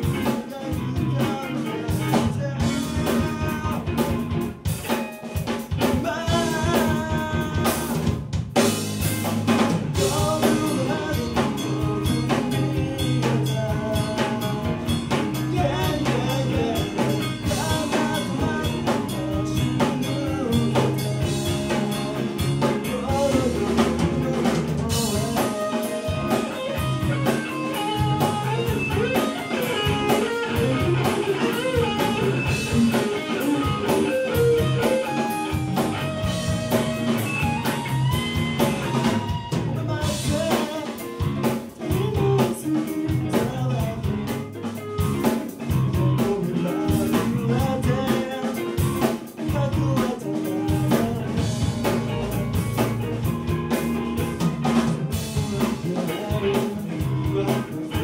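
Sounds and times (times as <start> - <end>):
bass guitar: 0.0 - 58.0
drum kit: 0.0 - 58.0
electric guitars through amplifiers: 0.0 - 58.0.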